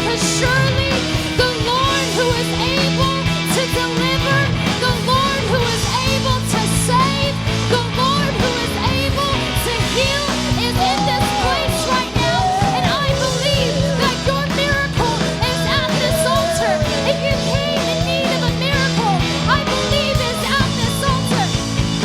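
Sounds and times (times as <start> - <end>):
sung melody: 0.0 - 22.0
worship band music: 0.0 - 22.0.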